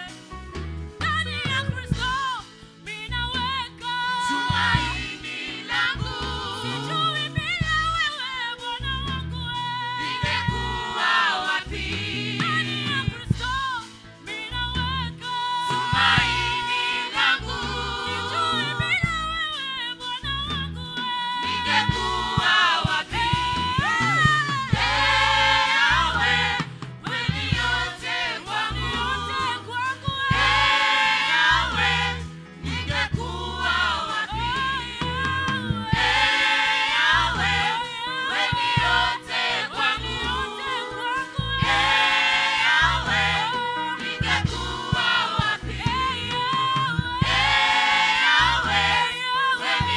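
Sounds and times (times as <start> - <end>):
group singing gospel song: 0.0 - 49.9
instrumental backing with beat: 0.0 - 49.9.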